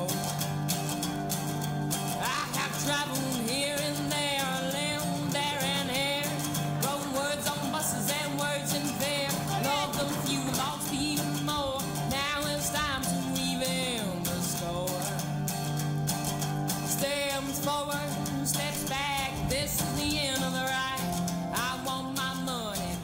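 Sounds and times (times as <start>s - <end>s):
person singing: 0.0s - 0.6s, 2.0s - 15.5s, 16.2s - 23.0s
guitar strumming: 0.0s - 23.0s.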